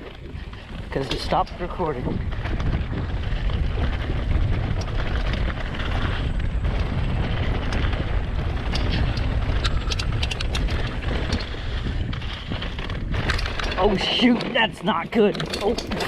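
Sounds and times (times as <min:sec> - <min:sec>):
bike chain and frame rattling: 0:00.0 - 0:16.0
wind buffeting microphone: 0:00.0 - 0:16.0.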